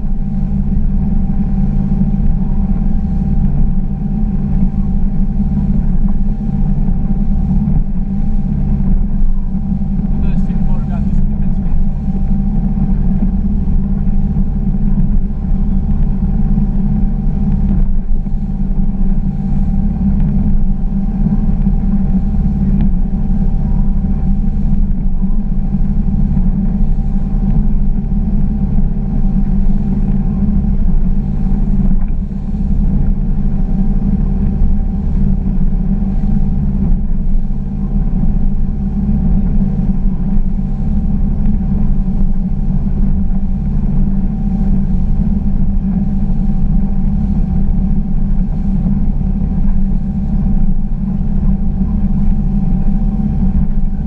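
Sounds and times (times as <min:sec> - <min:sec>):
boat engine droning: 0:00.0 - 0:54.0
wind: 0:00.0 - 0:54.0.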